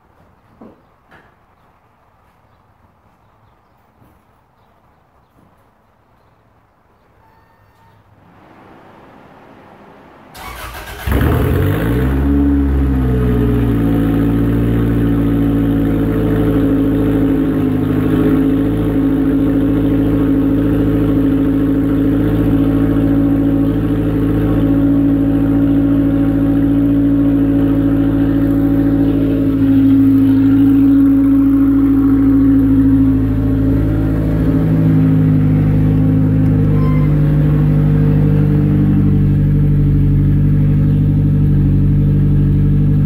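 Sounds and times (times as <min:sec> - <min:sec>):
car engine cold start and idle: 0:08.2 - 0:43.0.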